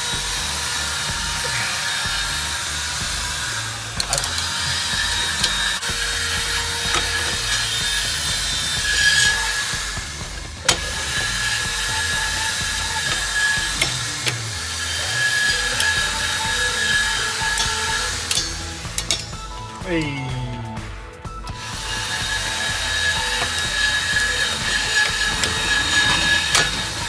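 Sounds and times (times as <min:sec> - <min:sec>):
workshop noise: 0:00.0 - 0:27.0.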